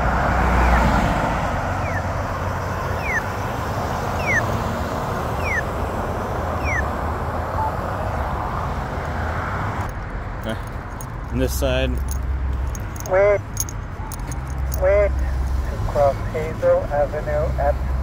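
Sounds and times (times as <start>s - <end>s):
road traffic rumble and hiss: 0.0s - 18.0s.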